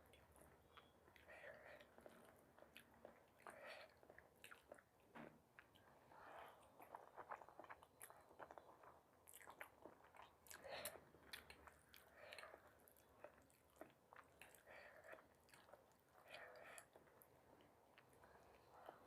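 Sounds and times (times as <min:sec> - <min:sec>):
chewing and crunching food: 0:00.0 - 0:19.0.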